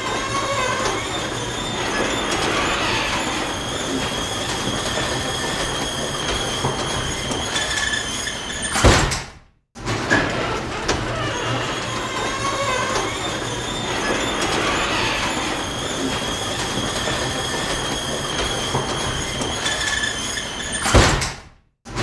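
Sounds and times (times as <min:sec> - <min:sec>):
garage door rolling with squeal: 0:00.0 - 0:22.0.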